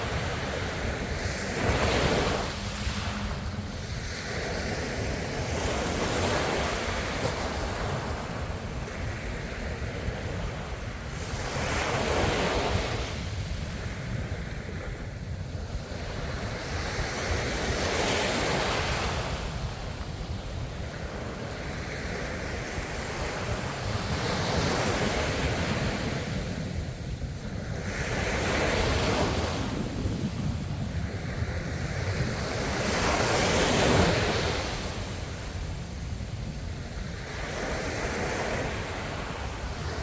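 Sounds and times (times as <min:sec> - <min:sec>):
ocean waves breaking on shore: 0:00.0 - 0:40.0.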